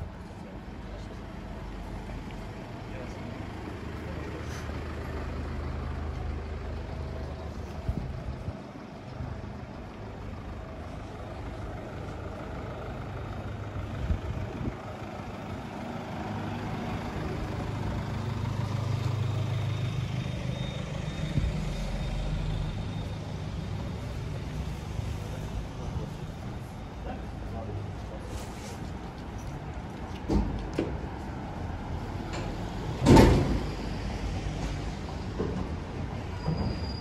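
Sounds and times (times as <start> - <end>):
heavy vehicle engine running: 0.0 - 37.0
street traffic: 0.0 - 37.0.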